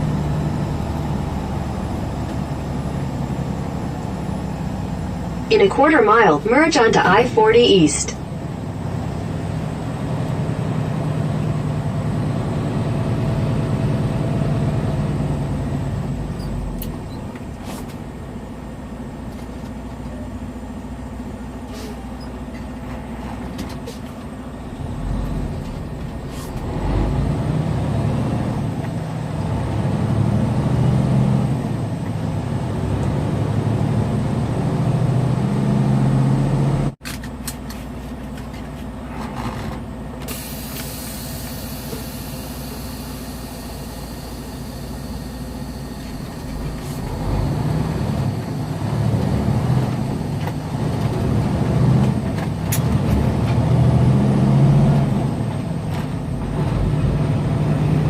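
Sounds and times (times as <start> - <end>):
truck diesel engine running: 0.0 - 37.0, 37.8 - 58.0.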